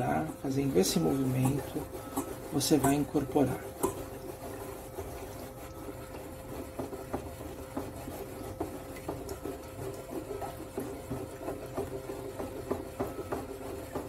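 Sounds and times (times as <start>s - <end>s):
saucepan scraping on countertop: 0.0s - 14.0s.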